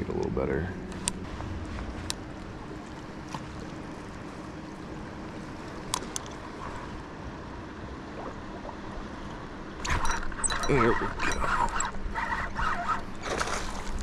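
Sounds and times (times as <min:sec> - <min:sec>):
moving water: 0:00.0 - 0:14.0.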